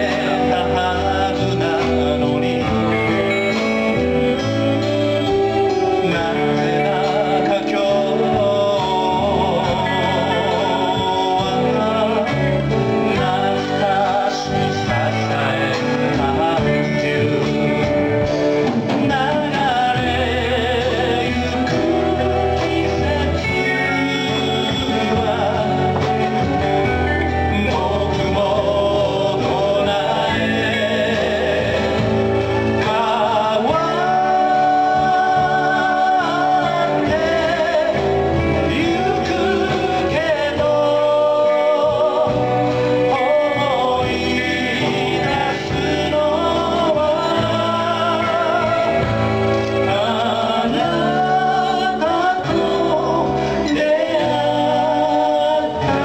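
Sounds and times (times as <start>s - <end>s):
acoustic guitars: 0.0s - 56.0s
men singing: 0.0s - 56.0s.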